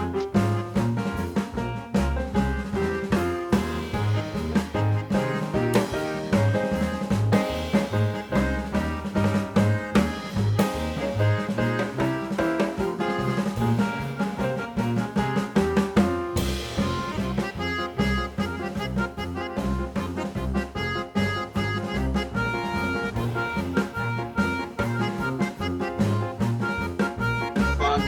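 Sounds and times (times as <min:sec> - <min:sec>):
upbeat swing music: 0:00.0 - 0:28.0.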